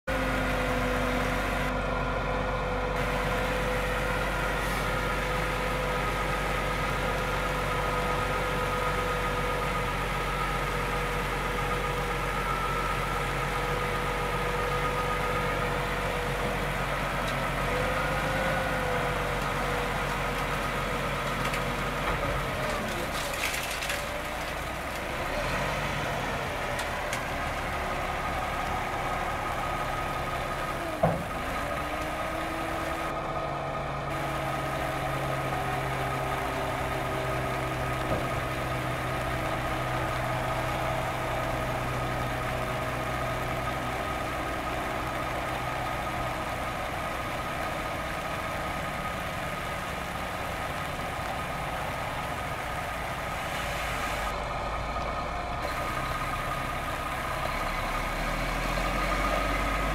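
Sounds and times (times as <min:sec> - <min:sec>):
diesel truck engine idling: 0:00.1 - 0:59.9.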